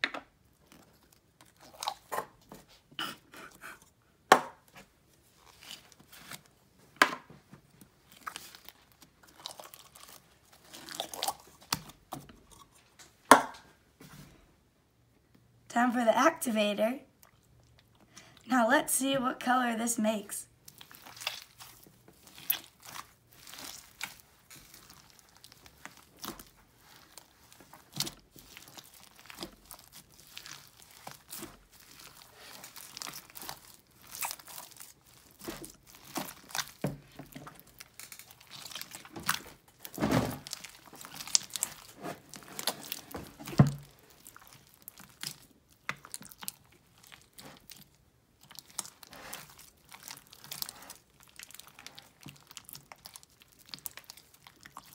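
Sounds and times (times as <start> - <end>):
hands squishing crunchy slime: 0.4 - 3.3, 4.6 - 6.6, 7.6 - 12.8, 20.5 - 54.9.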